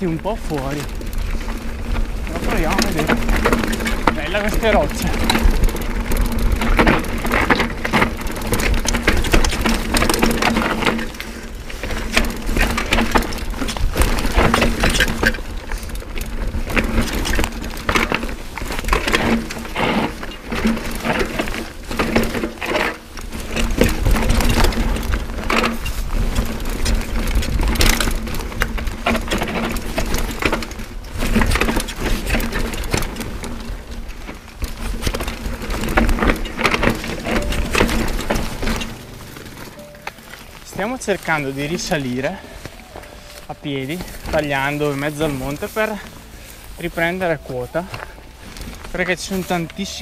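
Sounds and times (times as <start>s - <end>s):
bike clattering over rocks: 0.0s - 50.0s
wind rumbling on microphone: 0.0s - 50.0s.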